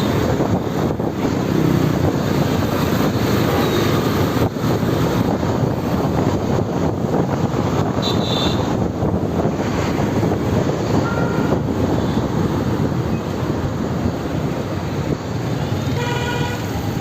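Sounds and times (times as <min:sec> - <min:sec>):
road and traffic noise: 0:00.0 - 0:17.0
wind rush on microphone: 0:00.0 - 0:17.0.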